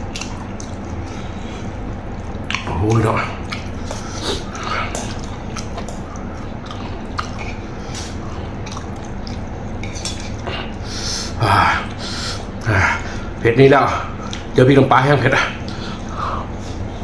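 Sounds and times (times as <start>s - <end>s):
chewing food: 0.0s - 13.2s, 14.1s - 14.6s
low hum: 0.0s - 17.0s.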